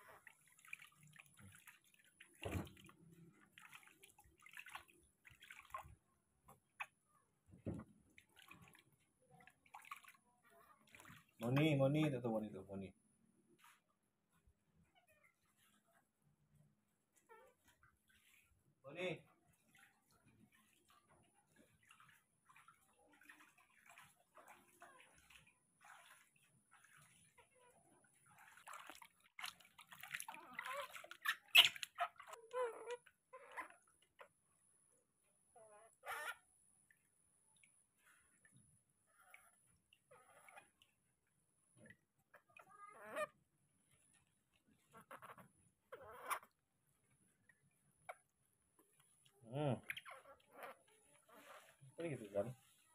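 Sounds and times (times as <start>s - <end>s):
water splashing in plastic basin: 0.0s - 12.6s, 17.2s - 34.4s, 36.8s - 52.8s.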